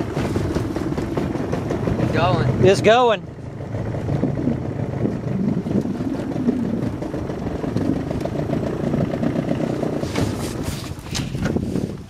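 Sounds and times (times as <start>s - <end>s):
small boat motor running: 0.0s - 12.0s.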